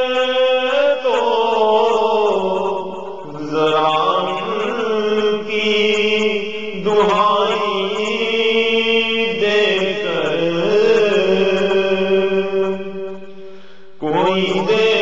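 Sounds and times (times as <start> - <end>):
man singing slow chant: 0.0 - 15.0
steady held drone: 0.0 - 15.0.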